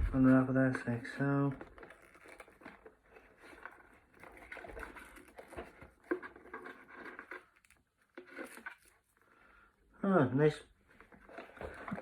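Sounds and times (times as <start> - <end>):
plastic packaging rustling: 0.0 - 9.6, 10.7 - 12.0.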